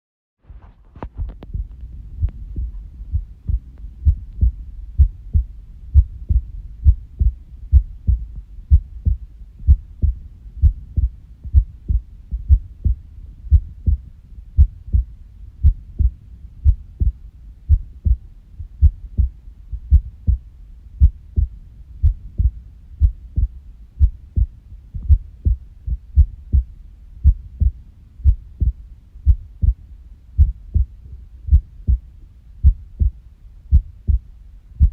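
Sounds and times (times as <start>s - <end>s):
irregular heartbeat thumps: 0.5s - 29.8s, 30.4s - 34.9s.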